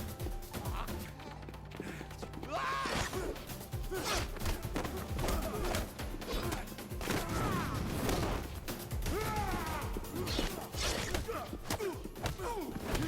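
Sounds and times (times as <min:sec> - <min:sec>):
action film music: 0:00.0 - 0:13.0
bending vocal cries: 0:00.5 - 0:07.9, 0:09.0 - 0:13.0.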